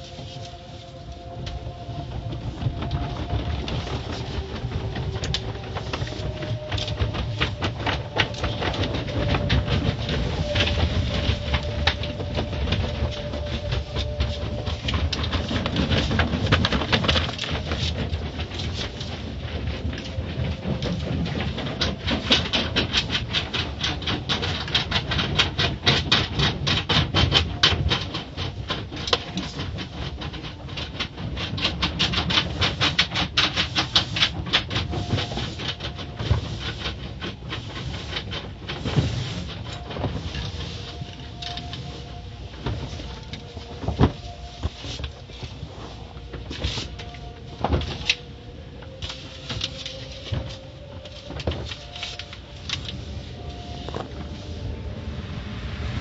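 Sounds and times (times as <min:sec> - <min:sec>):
car wash machinery clattering: 0:00.0 - 0:56.0.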